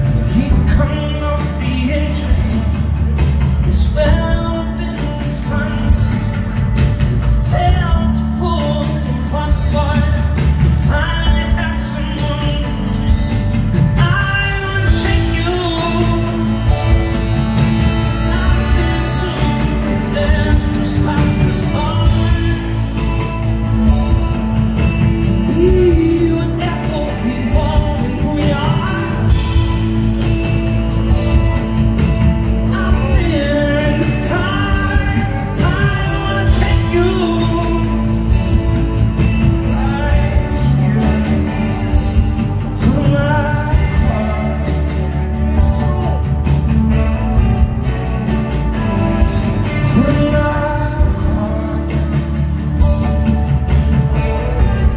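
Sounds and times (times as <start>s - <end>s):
live rock band playing: 0.0s - 54.9s
man singing lead vocal: 0.0s - 54.9s.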